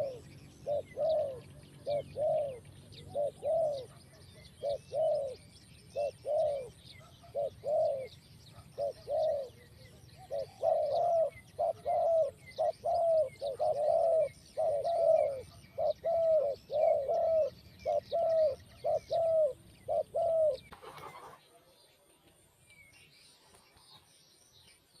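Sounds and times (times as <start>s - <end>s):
doves cooing: 0.0s - 21.5s
small birds chirping faintly: 0.0s - 25.0s.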